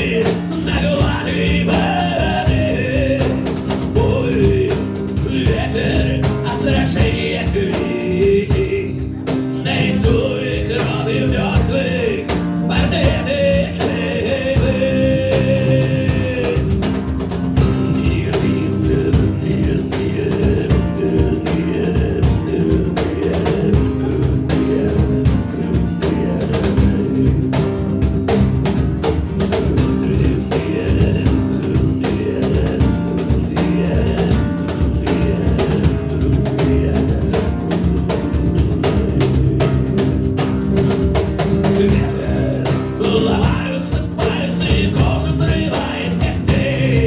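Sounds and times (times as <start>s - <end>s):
drum kit beat: 0.0s - 47.0s
guitar: 0.0s - 47.0s.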